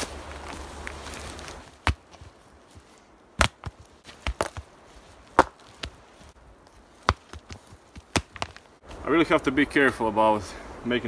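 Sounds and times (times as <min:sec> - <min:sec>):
rocks knocking on forest ground: 0:00.0 - 0:09.0.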